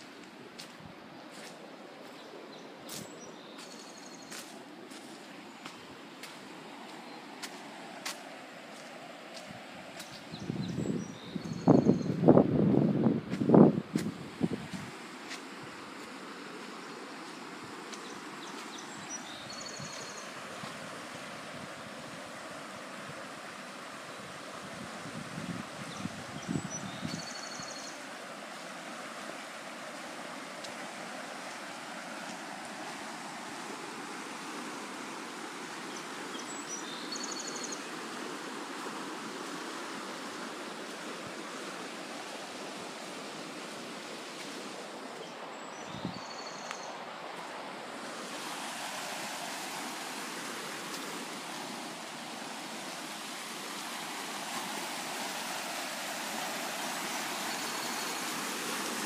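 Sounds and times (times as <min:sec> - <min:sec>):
floodwater rushing: 0:00.0 - 0:10.8, 0:13.5 - 0:45.8, 0:46.9 - 0:59.0.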